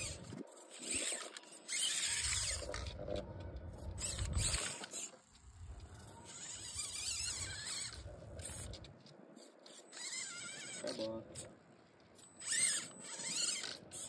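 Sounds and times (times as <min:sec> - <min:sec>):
rc car motor and servo whine: 0:00.0 - 0:14.0.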